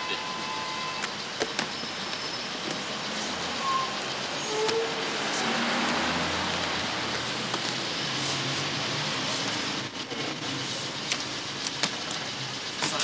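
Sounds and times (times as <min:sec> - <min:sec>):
passing vehicles rushing: 0:00.8 - 0:13.0.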